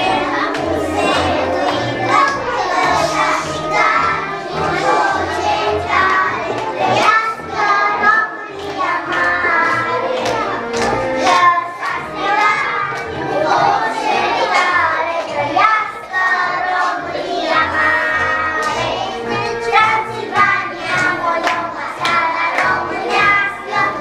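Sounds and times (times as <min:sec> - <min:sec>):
children singing: 0:00.0 - 0:24.0
music with steady beat: 0:00.0 - 0:24.0.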